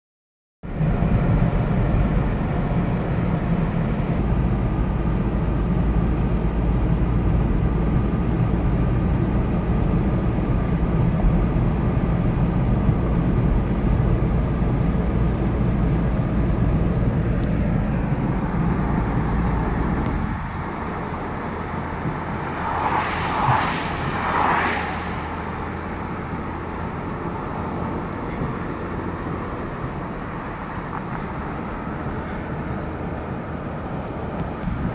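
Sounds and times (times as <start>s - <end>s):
car road and engine noise: 0.6s - 34.9s.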